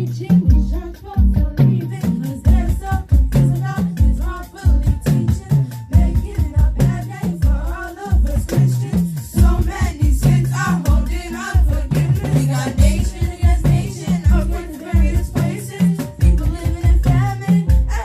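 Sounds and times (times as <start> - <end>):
vocal line: 0.0 - 18.0.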